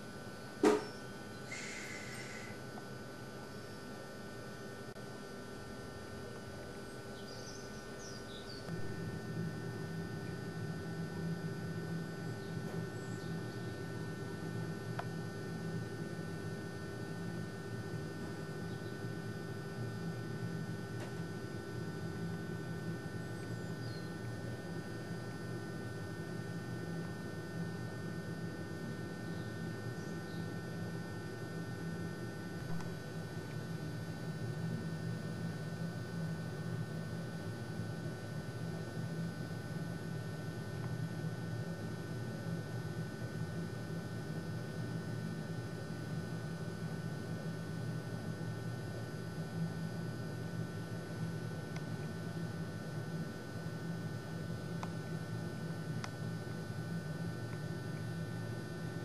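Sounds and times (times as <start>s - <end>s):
electrical hum with hiss: 0.0s - 59.0s.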